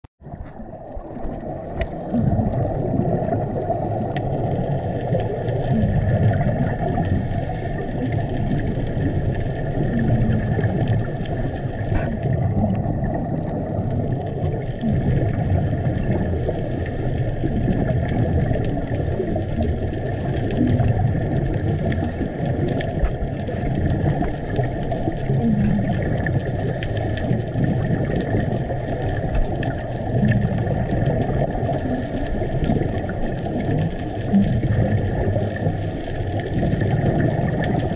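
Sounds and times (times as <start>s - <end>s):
muffled underwater rumble: 0.2s - 37.9s.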